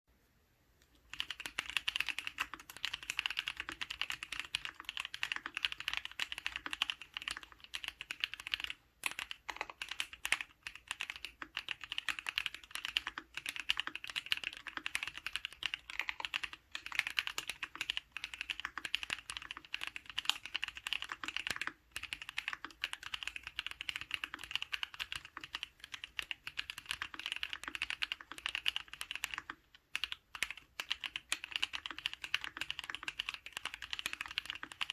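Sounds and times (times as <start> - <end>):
fast typing on mechanical keyboard: 1.1 - 34.9.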